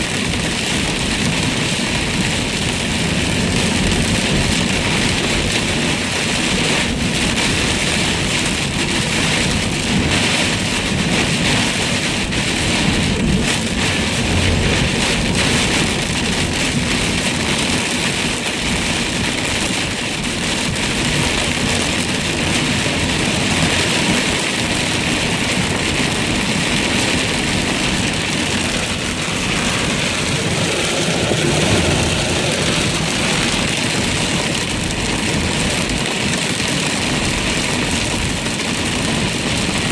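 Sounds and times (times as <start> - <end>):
car rumbling on road: 0.0 - 39.8
heavy rain on car roof: 0.0 - 39.9.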